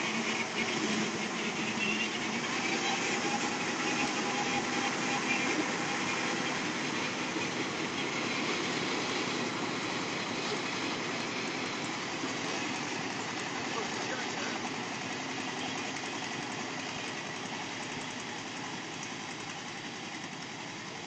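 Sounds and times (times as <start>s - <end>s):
harvester running: 0.0s - 21.0s.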